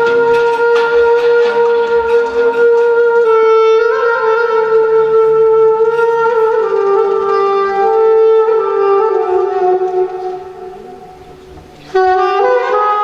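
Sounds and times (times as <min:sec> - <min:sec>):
woodwind slow melody: 0:00.0 - 0:13.0.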